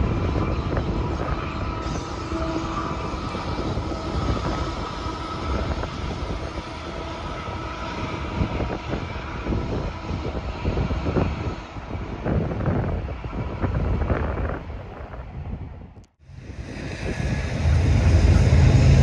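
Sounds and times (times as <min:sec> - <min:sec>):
distant freight train rumbling: 0:00.0 - 0:19.0.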